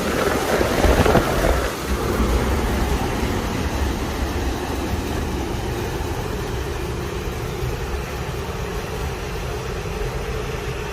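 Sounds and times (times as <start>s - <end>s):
extractor fan running: 0.0s - 10.9s.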